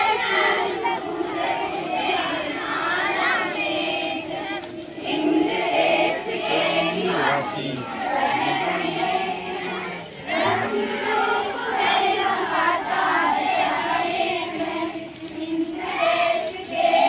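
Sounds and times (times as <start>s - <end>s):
children singing and chanting: 0.0s - 17.0s.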